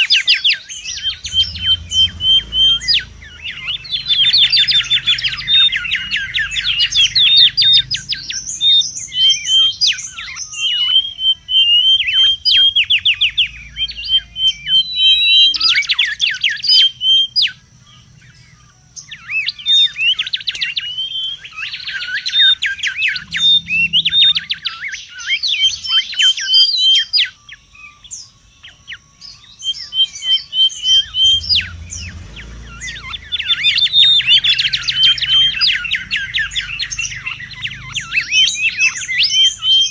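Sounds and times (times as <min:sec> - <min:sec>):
bird chirping and whistling: 0:00.0 - 0:39.9.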